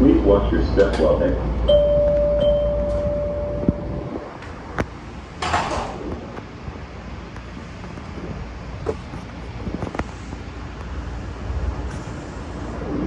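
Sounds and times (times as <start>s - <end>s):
subway car low rumble: 0.0s - 13.0s.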